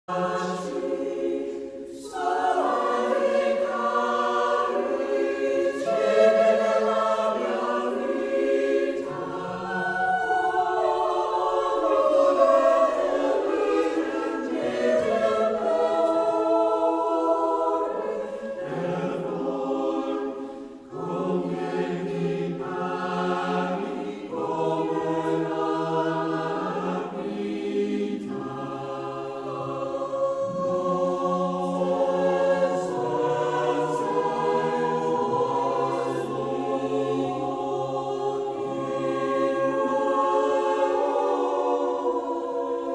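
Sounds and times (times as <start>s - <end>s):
choir singing: 0.1s - 42.9s.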